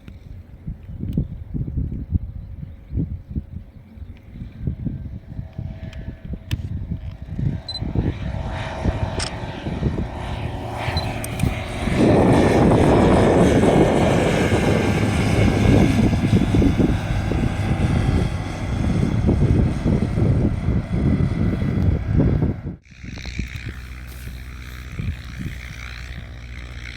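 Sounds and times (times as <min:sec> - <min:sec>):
propeller aircraft engine: 0:00.0 - 0:26.9.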